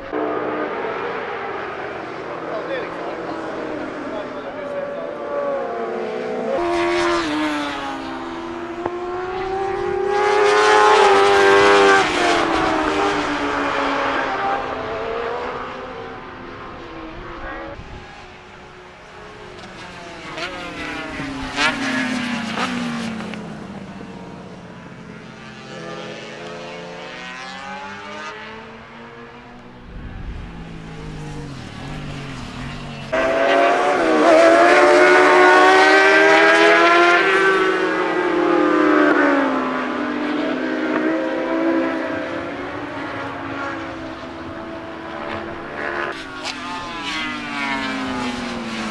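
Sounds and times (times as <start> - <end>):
motorcycles passing at speed: 0.0 - 48.9.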